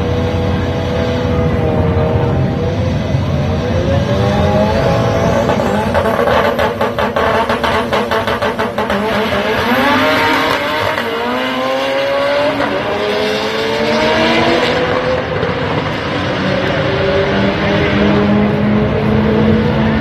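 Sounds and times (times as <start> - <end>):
drag race cars accelerating: 0.0 - 20.0
drag race engines crackling: 0.0 - 20.0.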